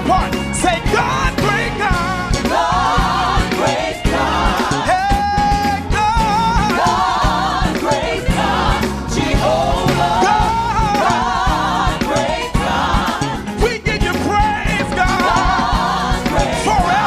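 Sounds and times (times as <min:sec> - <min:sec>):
choir singing gospel: 0:00.0 - 0:17.0
live band with bass and drums: 0:00.0 - 0:17.0.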